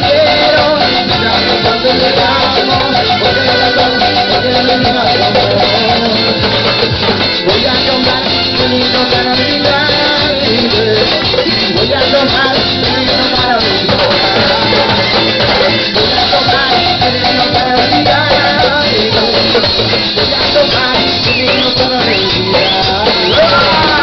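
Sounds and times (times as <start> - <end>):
drum kit and hand percussion: 0.0 - 24.0
latin dance band playing: 0.0 - 24.0.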